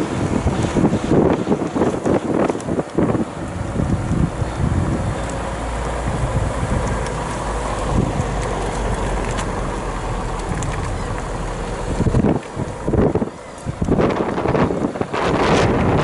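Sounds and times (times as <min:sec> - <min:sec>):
car engine and road rumble: 0:00.0 - 0:16.0
wind buffeting microphone: 0:00.0 - 0:16.0.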